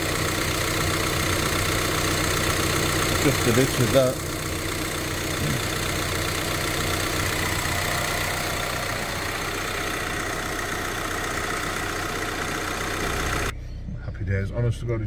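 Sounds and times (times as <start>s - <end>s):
diesel engine idling: 0.0s - 14.7s.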